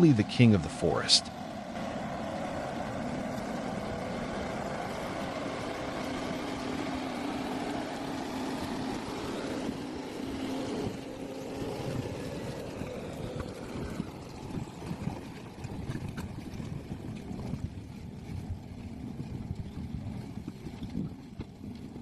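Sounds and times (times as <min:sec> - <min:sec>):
diesel engine under load: 0:00.0 - 0:20.5.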